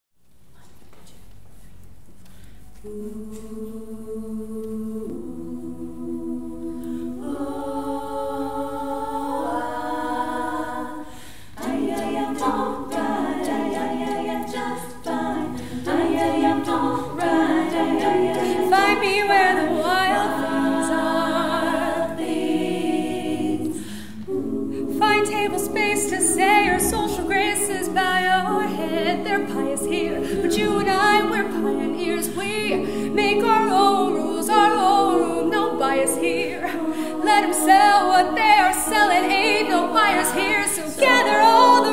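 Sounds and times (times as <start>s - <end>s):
female a cappella group singing: 2.8s - 41.9s.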